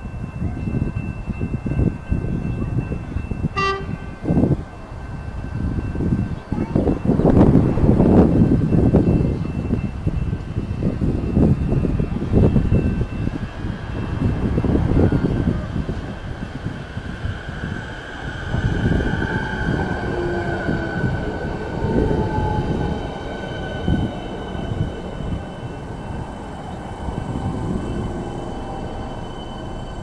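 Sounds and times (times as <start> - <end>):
electric train high whine: 0.0 - 30.0
wind buffeting microphone: 0.0 - 30.0
train braking past: 0.7 - 30.0.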